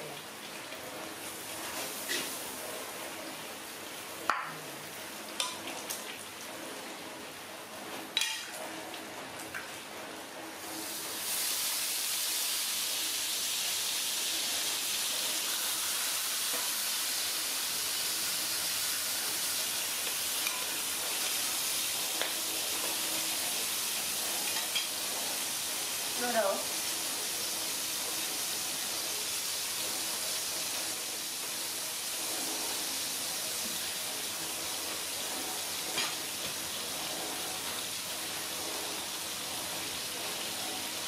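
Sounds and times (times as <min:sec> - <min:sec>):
fish sizzling in hot oil: 0:00.3 - 0:06.4, 0:10.6 - 0:41.0.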